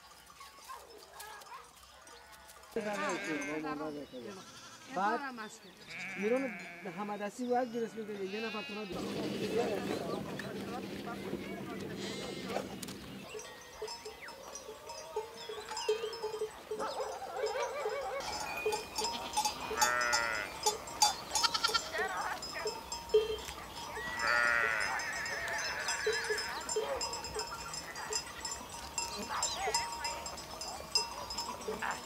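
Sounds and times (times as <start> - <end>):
sheep and goats bleating: 2.1 - 16.5, 18.2 - 32.0.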